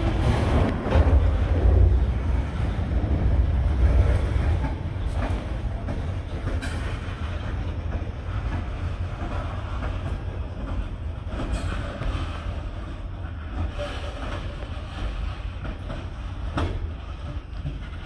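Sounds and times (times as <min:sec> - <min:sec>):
freight train rumbling: 0:00.0 - 0:18.0
train clanks: 0:00.0 - 0:18.0.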